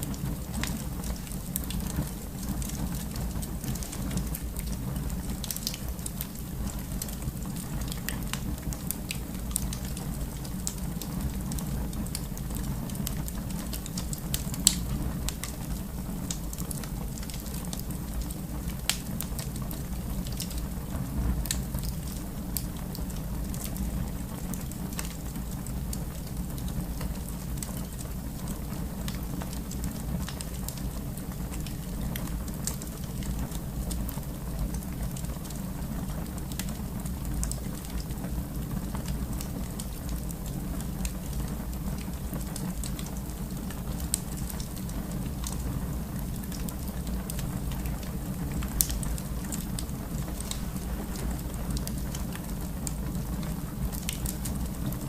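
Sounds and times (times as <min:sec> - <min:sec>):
fire rumbling and hissing: 0:00.0 - 0:55.0
fire popping: 0:00.1 - 0:55.0.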